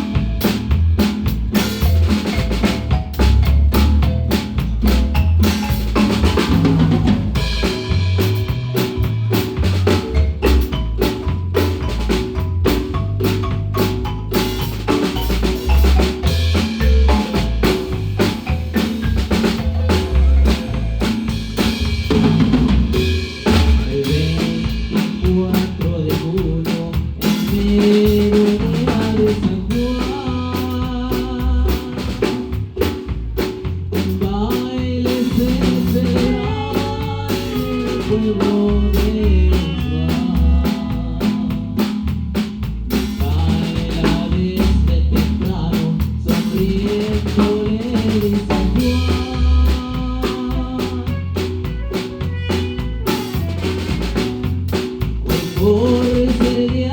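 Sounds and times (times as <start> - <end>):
bass line: 0.0 - 56.9
drum kit with snare rimshots: 0.0 - 56.9
marimba notes: 0.0 - 56.9.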